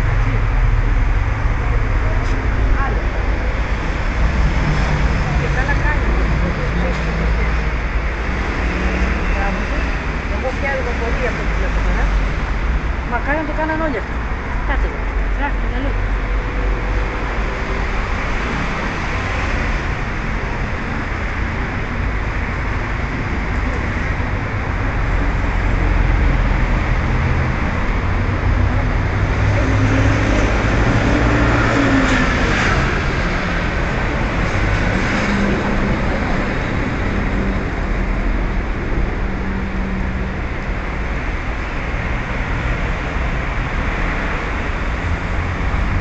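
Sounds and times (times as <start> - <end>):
traffic rumble: 0.0 - 46.0.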